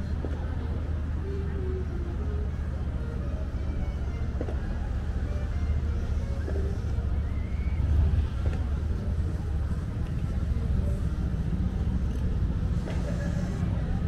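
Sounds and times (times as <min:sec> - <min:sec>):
passers-by voices: 0:00.0 - 0:14.0
street low rumble: 0:00.0 - 0:14.0.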